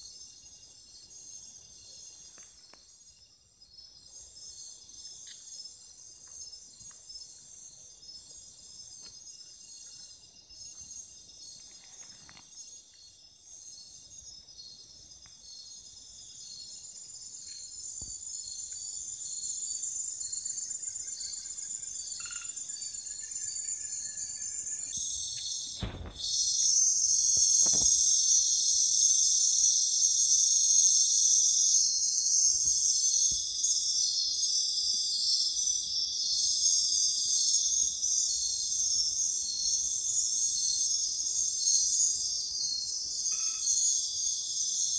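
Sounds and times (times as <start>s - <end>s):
crickets trilling: 0.0s - 44.9s.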